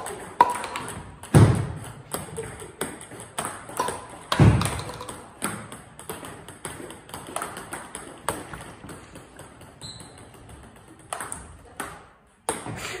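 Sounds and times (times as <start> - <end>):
paddle striking table tennis ball: 0.0 - 12.8
table tennis ball bouncing on table: 0.0 - 12.8.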